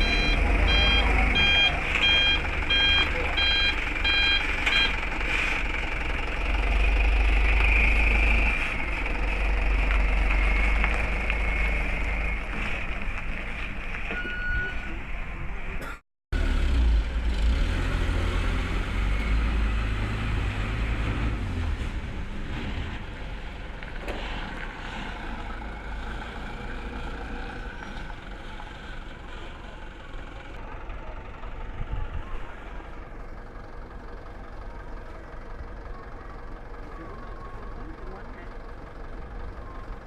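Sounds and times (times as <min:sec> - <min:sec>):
diesel truck engine rumbling: 0:00.0 - 0:40.0.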